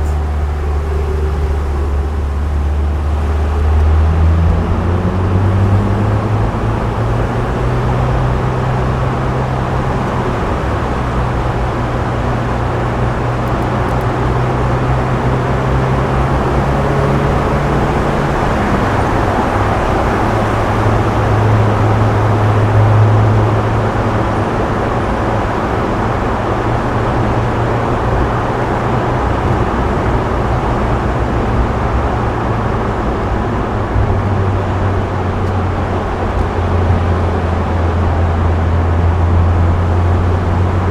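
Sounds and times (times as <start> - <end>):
car engine drone: 0.0 - 40.9
tyre and road noise: 0.0 - 40.9.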